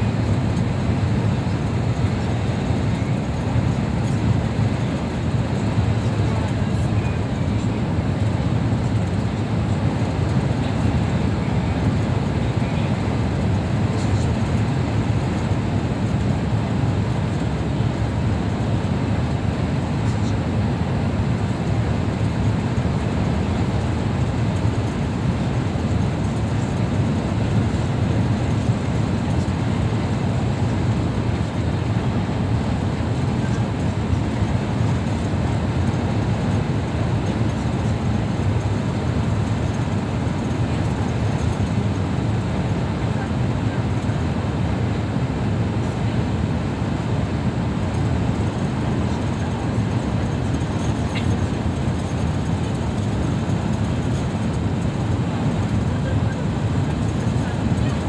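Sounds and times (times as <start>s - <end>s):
vehicle cabin road rumble: 0.0s - 58.0s.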